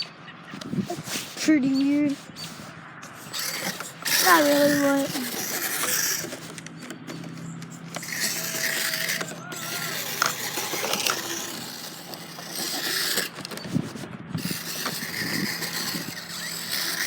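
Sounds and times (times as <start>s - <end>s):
toy car drivetrain whirring: 0.6s - 17.0s.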